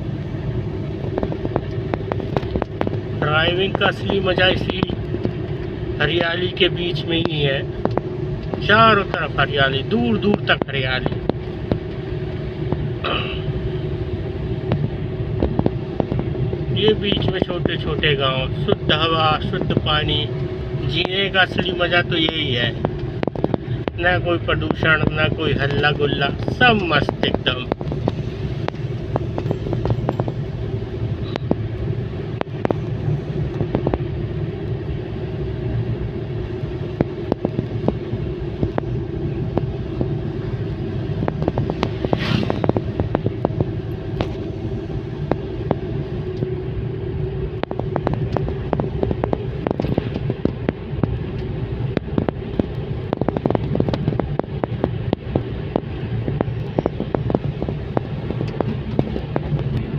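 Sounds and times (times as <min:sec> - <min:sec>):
car engine and tyres rumbling: 0:00.0 - 0:59.9
road knocks and rattles: 0:00.0 - 0:59.9.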